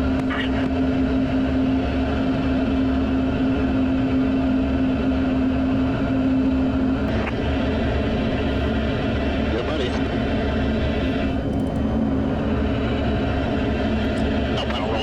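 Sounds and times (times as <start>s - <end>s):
jet engine and airflow: 0.0s - 15.0s
steady hum: 0.0s - 15.0s.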